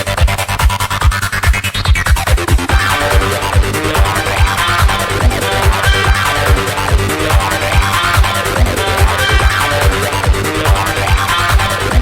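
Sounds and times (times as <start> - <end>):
trance music with kick drum: 0.0 - 12.0.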